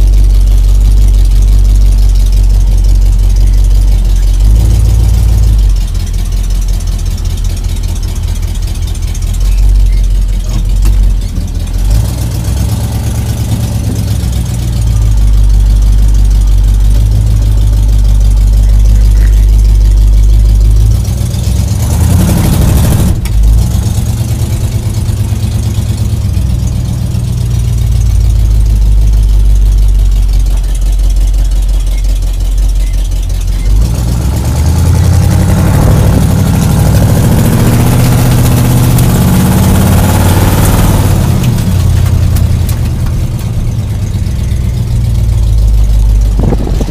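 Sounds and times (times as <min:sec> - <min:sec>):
deep engine exhaust note: 0:00.0 - 0:46.9.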